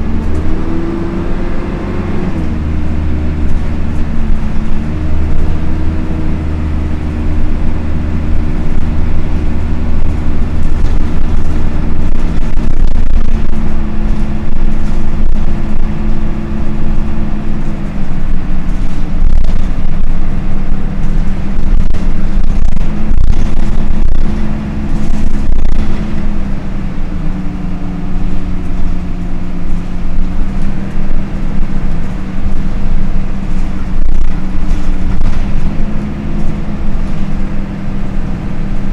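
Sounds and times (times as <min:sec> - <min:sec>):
diesel engine rumble: 0:00.0 - 0:38.9
engine cooling fan drone: 0:00.0 - 0:38.9.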